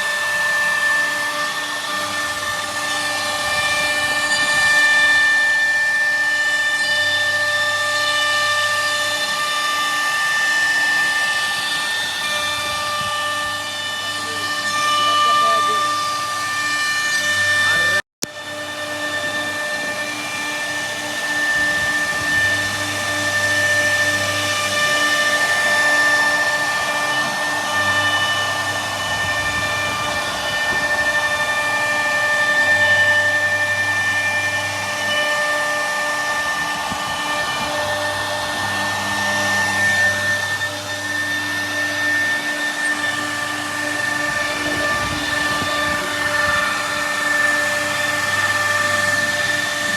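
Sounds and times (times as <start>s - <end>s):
router spindle whining: 0.0s - 49.9s
wood cutting noise: 0.0s - 49.9s.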